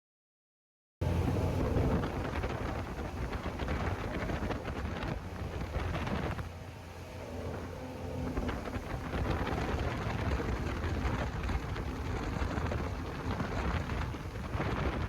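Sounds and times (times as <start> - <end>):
boat engine rumble: 1.0 - 15.0
wind buffeting microphone: 1.0 - 15.0
water splashing: 1.1 - 15.0.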